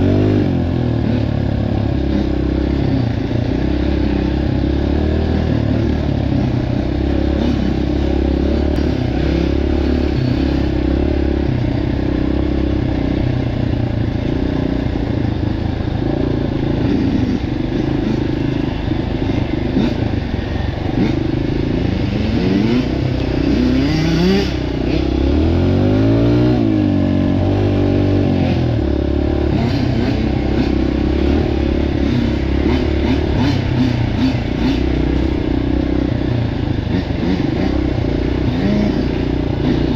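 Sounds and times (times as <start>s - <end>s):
dirt bike engines running: 0.0s - 39.9s.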